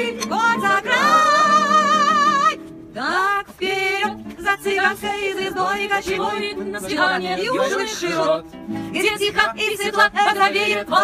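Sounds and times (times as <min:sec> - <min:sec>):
voices singing: 0:00.0 - 0:11.0.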